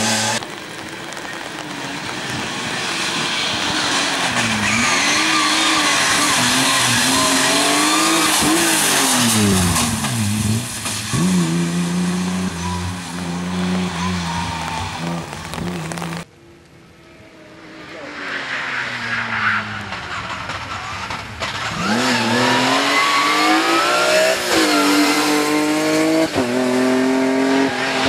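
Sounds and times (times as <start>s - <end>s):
rally car engine revving: 0.0s - 0.6s, 1.4s - 16.2s, 17.8s - 28.0s
road and tyre noise: 0.0s - 28.0s.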